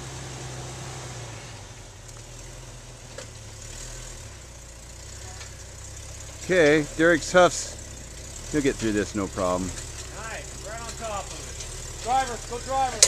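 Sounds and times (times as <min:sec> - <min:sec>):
engine running low: 0:00.0 - 0:13.0.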